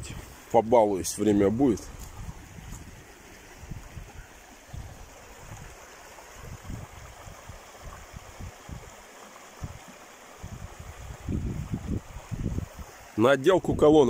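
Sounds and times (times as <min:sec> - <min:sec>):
river running over stones: 0:00.0 - 0:14.0.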